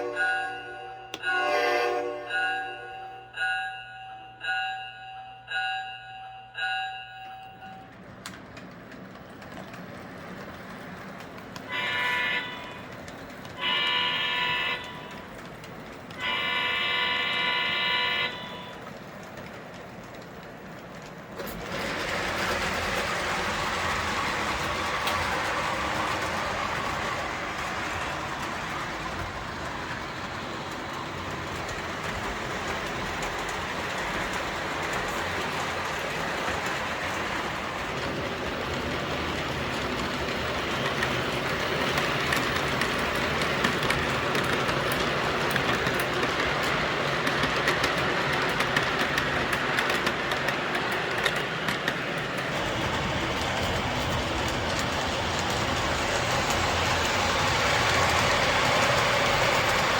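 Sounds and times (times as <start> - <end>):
model train rolling whir: 0.0 - 59.9
wheels ticking over rail joints: 5.5 - 59.9.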